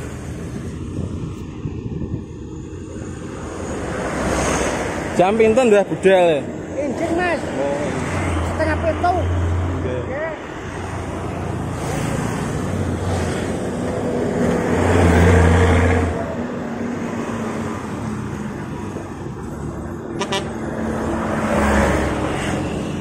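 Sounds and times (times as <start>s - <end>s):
vehicles passing close by: 0.0s - 23.0s.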